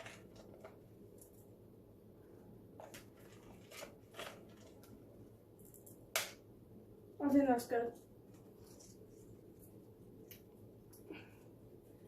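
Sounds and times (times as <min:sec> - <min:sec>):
quiet room hum: 0:00.0 - 0:12.0.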